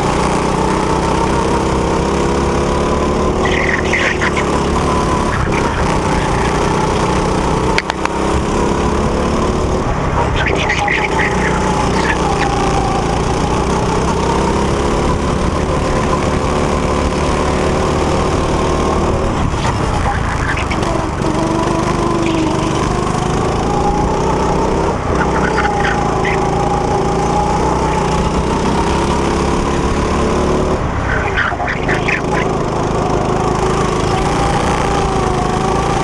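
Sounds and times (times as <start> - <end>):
go-kart engine running: 0.0 - 36.0.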